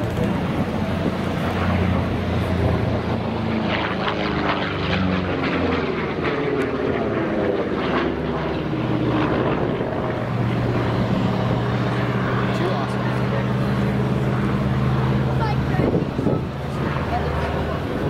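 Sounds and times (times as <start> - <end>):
aircraft engine passing low: 0.0 - 18.0.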